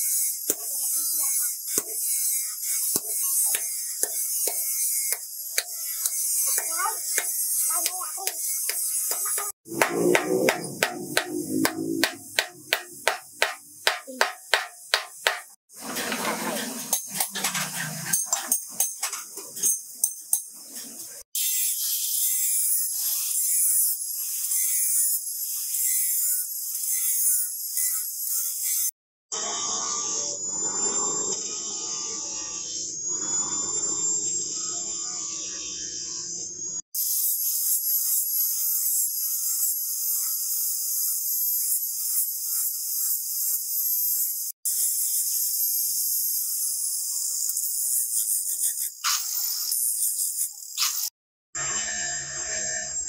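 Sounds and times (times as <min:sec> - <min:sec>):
angle grinder cutting steel: 0:00.0 - 0:36.3, 0:37.0 - 0:53.0.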